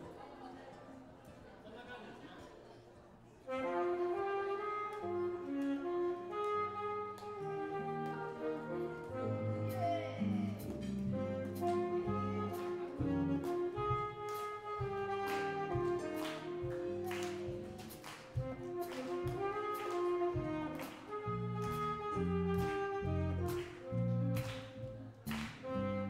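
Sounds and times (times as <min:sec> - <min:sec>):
alto saxophone melody: 0:03.5 - 0:26.0
keyboard: 0:03.5 - 0:26.0
guitar: 0:03.6 - 0:26.0.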